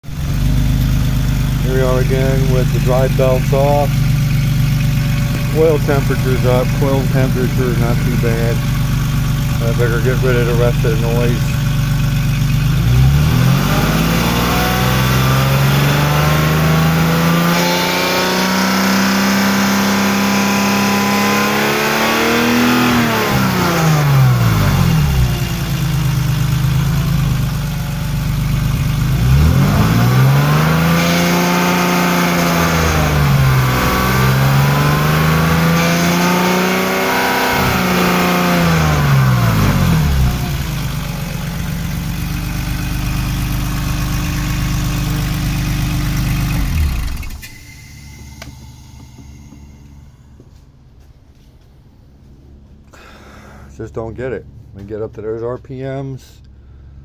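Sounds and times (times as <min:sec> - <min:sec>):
grinding rattling noise: 0:00.0 - 0:17.5, 0:22.7 - 0:52.9
car engine revving: 0:00.0 - 0:51.5.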